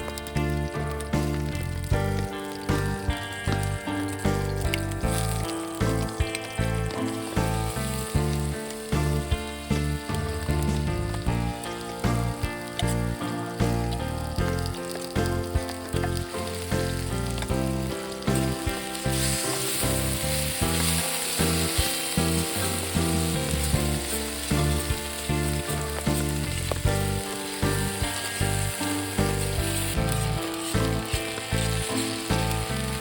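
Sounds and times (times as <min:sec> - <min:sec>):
background music: 0:00.0 - 0:33.0
food sizzling in a pan: 0:00.0 - 0:33.0.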